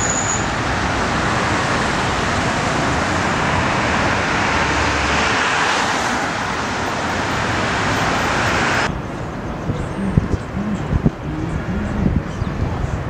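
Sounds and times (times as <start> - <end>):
city traffic rushing past: 0.0 - 13.0.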